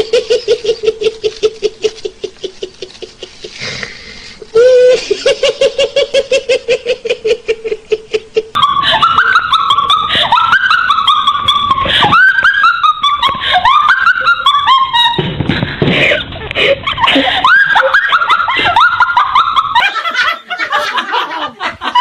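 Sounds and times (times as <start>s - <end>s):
high-pitched squealing laugh: 0.0s - 3.8s, 4.4s - 22.0s
rhythmic pulsing laugh: 0.0s - 3.9s, 4.8s - 22.0s.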